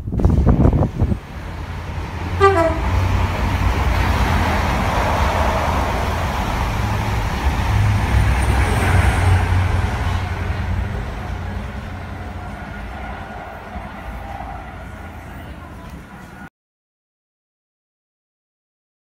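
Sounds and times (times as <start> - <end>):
diesel train passing: 0.0 - 16.5.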